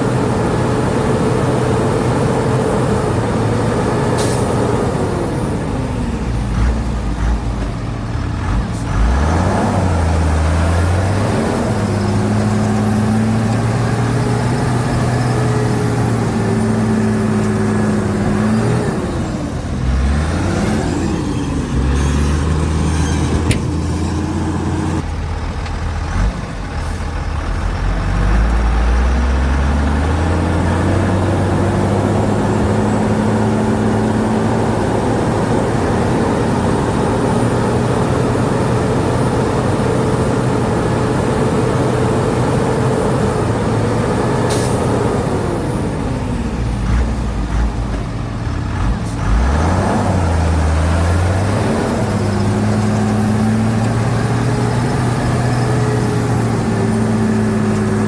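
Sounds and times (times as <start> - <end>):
diesel engine revving under load: 0.0 - 58.0.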